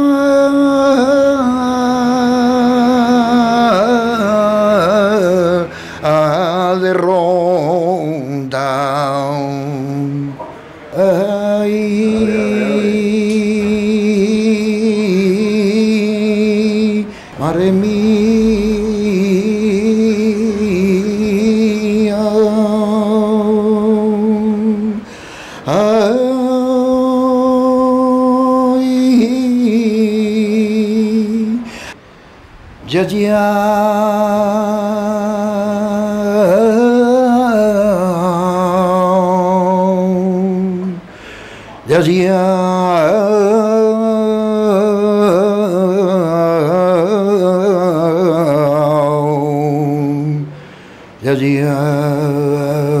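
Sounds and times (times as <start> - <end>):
man singing unaccompanied: 0.0 - 31.7, 32.8 - 41.1, 41.8 - 53.0.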